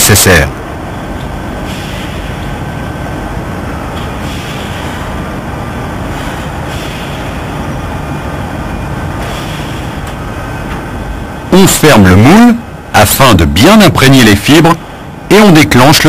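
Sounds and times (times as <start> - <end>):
factory machinery rumble and hiss: 0.0 - 16.0.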